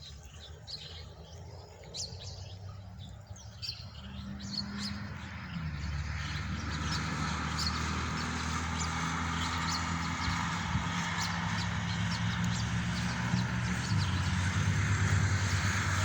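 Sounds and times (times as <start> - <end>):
birds chirping: 0.0 - 16.0
engine humming: 0.1 - 16.0.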